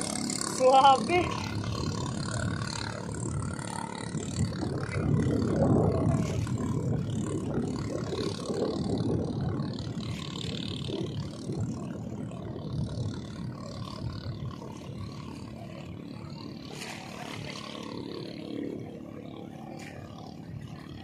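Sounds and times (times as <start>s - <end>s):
boat engine running at speed: 0.0s - 21.0s.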